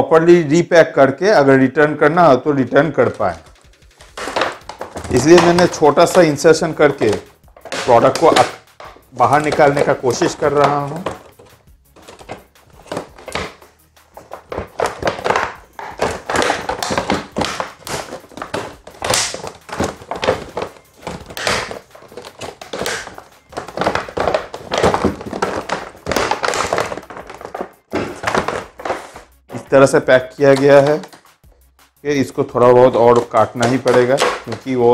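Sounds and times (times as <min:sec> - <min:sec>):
metal object knocking in packaging: 0:02.8 - 0:29.4, 0:30.4 - 0:31.8, 0:32.6 - 0:34.9
plastic blister pack crackling: 0:02.8 - 0:31.6, 0:32.8 - 0:34.9.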